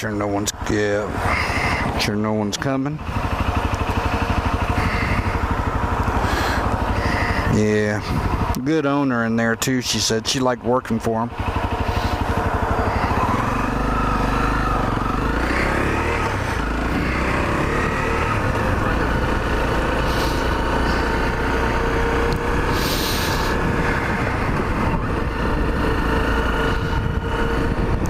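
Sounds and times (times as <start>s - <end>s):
motorcycle engine on the road: 0.0s - 28.0s.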